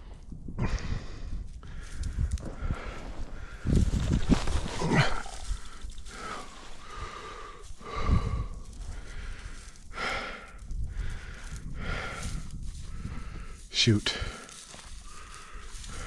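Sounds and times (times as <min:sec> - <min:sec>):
person breathing hard: 0:00.0 - 0:03.9, 0:04.8 - 0:16.0
footsteps through snowy grass: 0:01.4 - 0:16.0.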